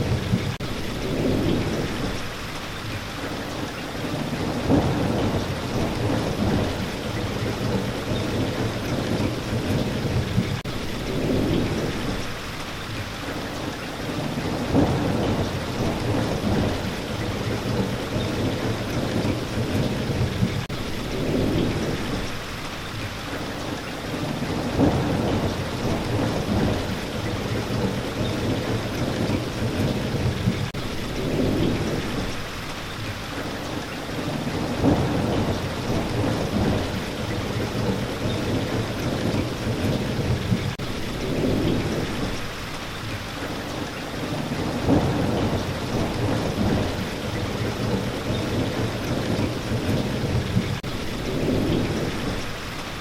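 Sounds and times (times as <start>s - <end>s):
thunder rumbling: 0.0s - 13.0s, 14.0s - 53.0s
steady rain: 0.0s - 53.0s.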